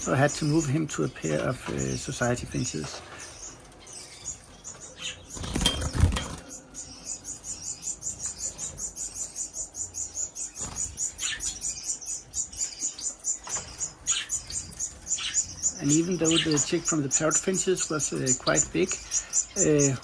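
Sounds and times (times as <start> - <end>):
finch chirping: 0.0 - 20.0.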